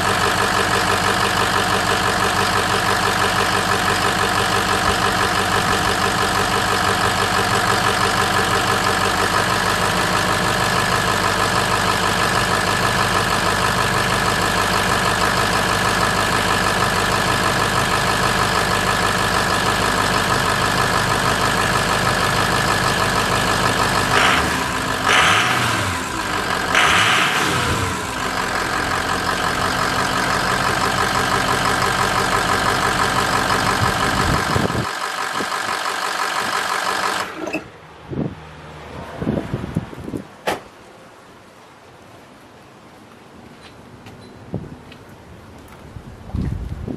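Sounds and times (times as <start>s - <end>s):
vehicle engine idling and revving: 0.0s - 40.4s.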